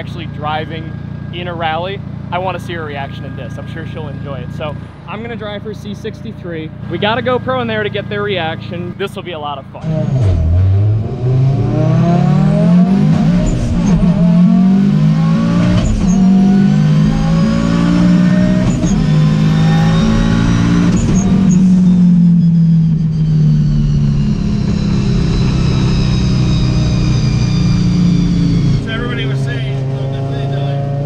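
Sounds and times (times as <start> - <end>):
turbocharged car engine accelerating: 0.0 - 31.0.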